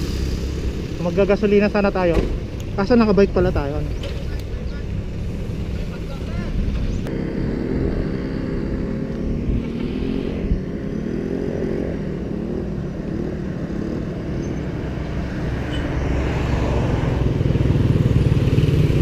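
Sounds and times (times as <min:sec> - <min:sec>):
motorcycle engines passing: 0:00.0 - 0:19.0.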